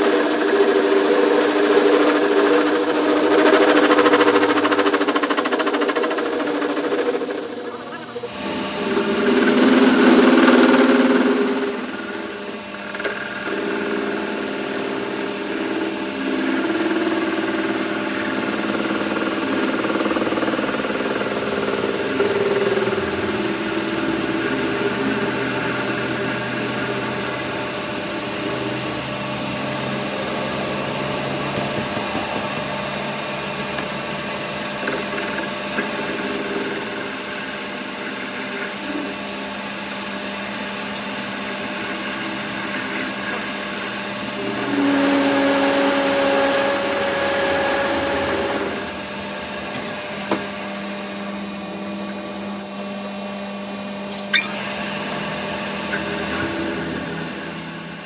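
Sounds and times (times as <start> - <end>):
high-pitched whine: 0.0 - 58.0
machine tool humming: 0.0 - 58.0.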